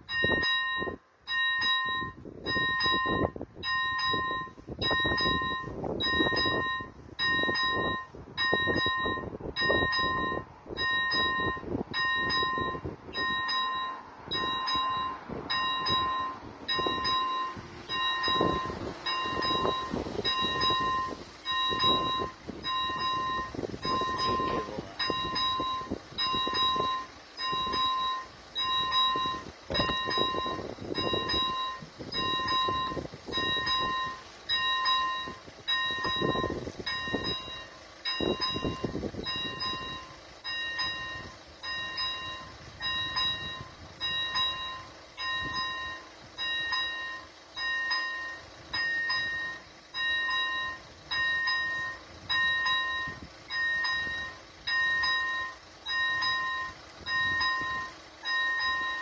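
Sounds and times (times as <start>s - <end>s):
level crossing bell ringing: 0.0s - 59.0s.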